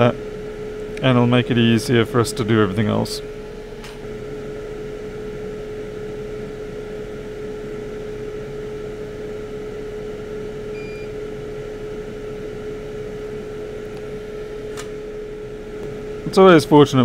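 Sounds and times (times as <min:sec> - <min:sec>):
electrical equipment hum: 0:00.0 - 0:17.0.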